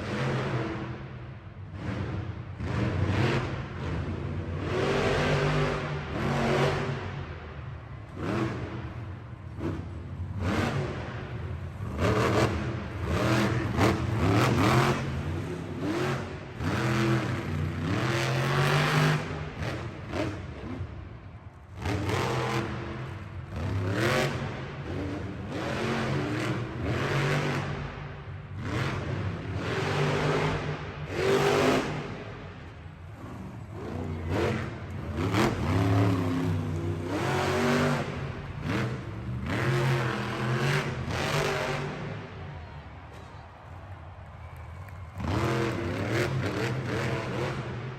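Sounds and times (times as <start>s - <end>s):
truck engine revving: 1.6s - 21.1s, 21.7s - 42.4s, 45.2s - 47.9s.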